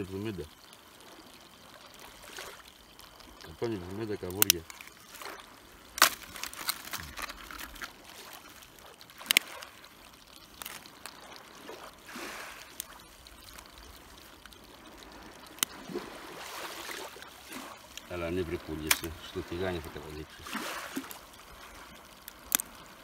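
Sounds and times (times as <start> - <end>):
soft wet trickling: 0.0 - 23.0
crab shells clacking: 1.4 - 16.1, 16.8 - 23.0.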